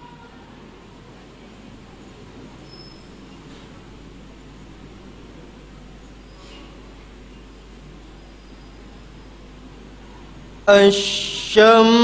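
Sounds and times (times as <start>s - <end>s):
low hall background noise: 0.0s - 12.0s.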